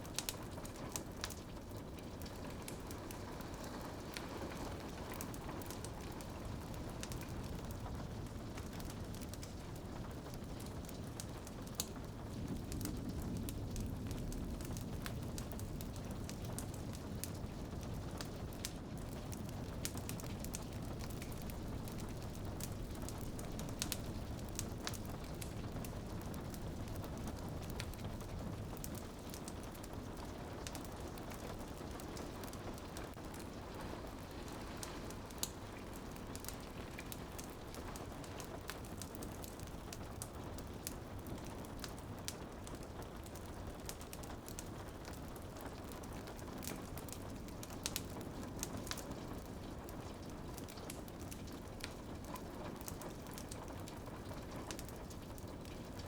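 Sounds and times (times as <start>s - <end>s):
rain on a window: 0.0s - 56.0s
wood fire crackling: 0.0s - 56.0s.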